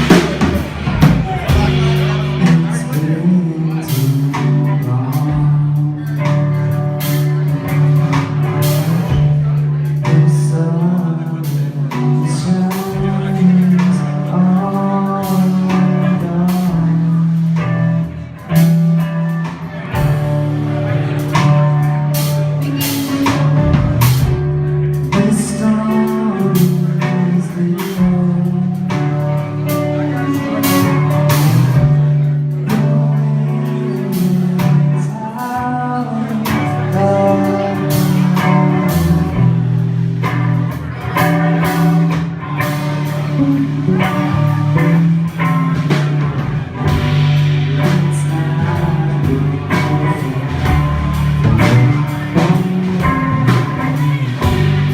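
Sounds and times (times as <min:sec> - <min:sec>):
person singing: 0:00.0 - 0:20.2, 0:20.8 - 0:54.9
bass guitar: 0:00.0 - 0:54.9
drum kit: 0:00.0 - 0:54.9
electric guitar: 0:00.0 - 0:54.9.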